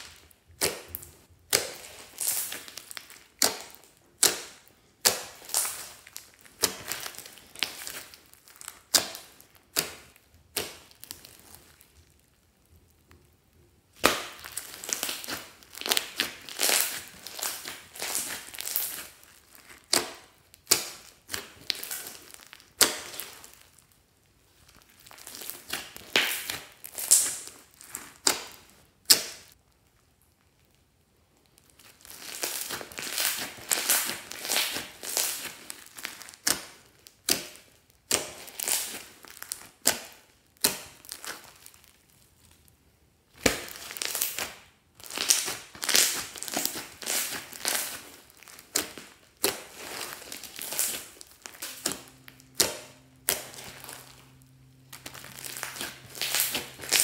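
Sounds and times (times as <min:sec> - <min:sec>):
slime squelching: 0:00.0 - 0:57.0.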